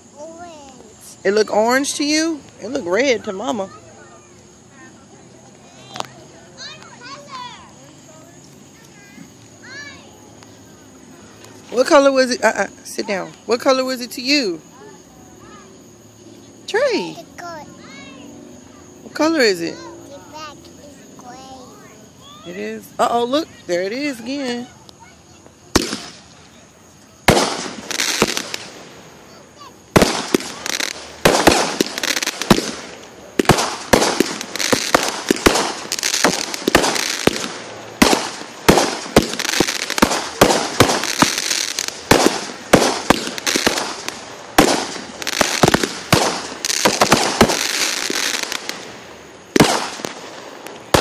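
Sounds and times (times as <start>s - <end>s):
fireworks banging and popping: 0.0s - 51.0s
fireworks hissing: 0.0s - 51.0s.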